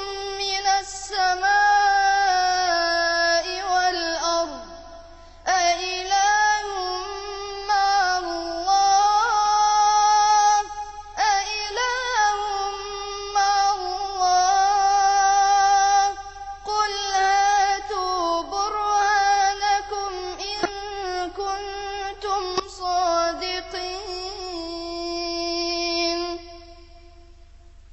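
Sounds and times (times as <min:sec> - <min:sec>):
person chanting melodically: 0:00.0 - 0:27.4.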